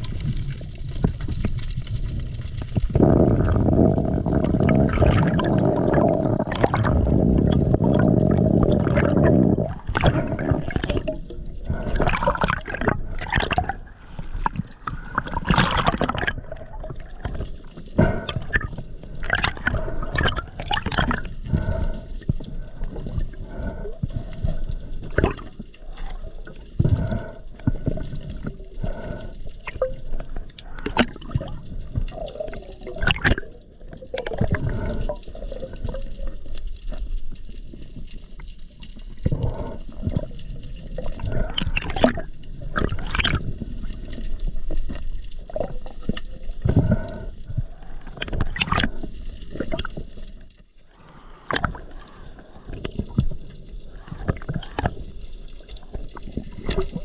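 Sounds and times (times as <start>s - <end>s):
water sloshing and gurgling: 0.0s - 57.0s.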